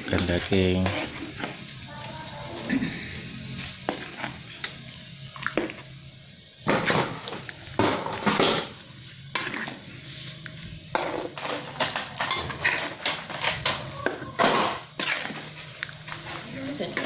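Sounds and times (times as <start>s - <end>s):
spatula stirring sauce in wok: 0.0s - 17.0s.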